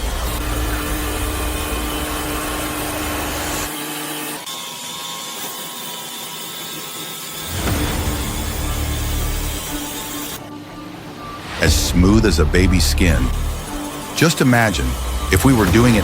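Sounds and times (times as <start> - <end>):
saw cutting wood: 0.0 - 16.0.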